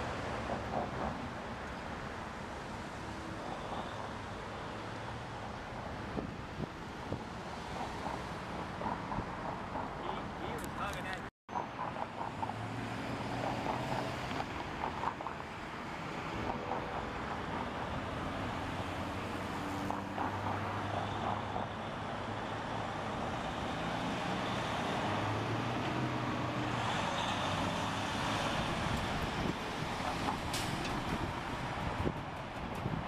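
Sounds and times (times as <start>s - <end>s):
passing cars: 0.0s - 33.0s
road noise: 0.0s - 33.0s.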